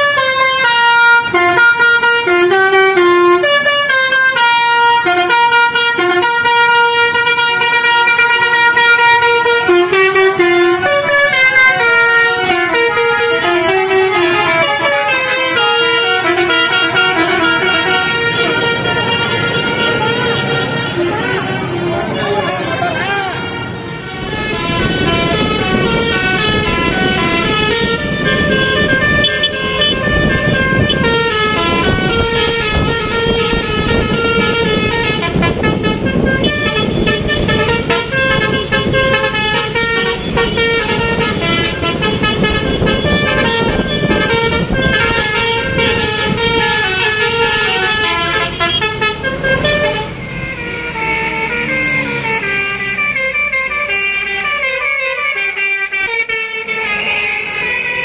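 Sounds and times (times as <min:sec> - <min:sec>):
bus engine: 0:00.0 - 0:58.0
musical bus horns playing melody: 0:00.0 - 0:58.0
traffic: 0:00.0 - 0:58.0.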